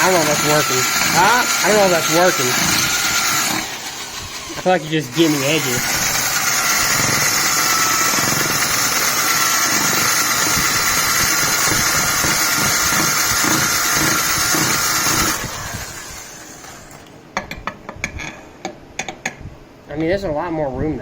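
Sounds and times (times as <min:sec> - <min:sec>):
rotary tool grinding metal: 0:00.0 - 0:17.1.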